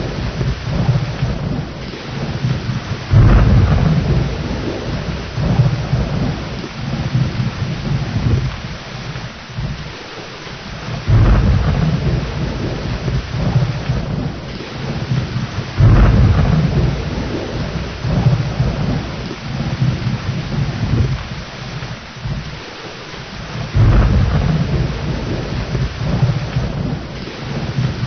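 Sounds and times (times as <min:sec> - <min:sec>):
loud thunderclap: 0:00.0 - 0:10.0, 0:10.7 - 0:22.7, 0:23.3 - 0:28.0
heavy rain: 0:00.0 - 0:28.0
thunder rumbling: 0:00.0 - 0:28.0.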